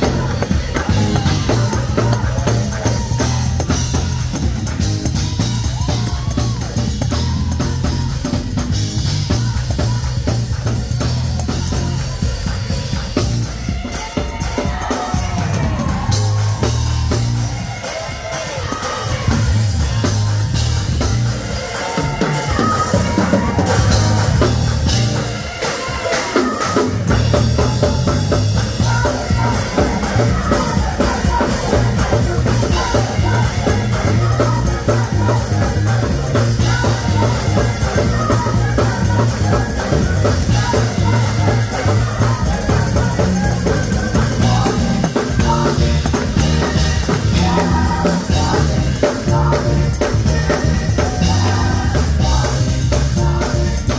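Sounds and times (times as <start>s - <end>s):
drum kit beat: 0.0s - 53.9s
gospel choir singing: 0.0s - 53.9s
live band playing: 0.0s - 53.9s.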